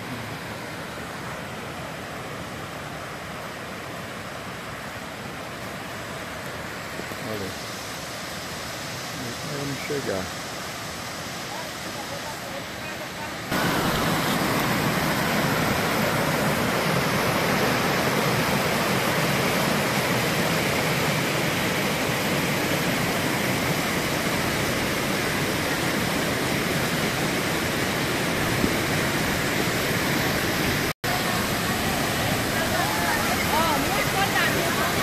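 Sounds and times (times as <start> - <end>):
river water rushing over rocks: 0.0 - 35.0.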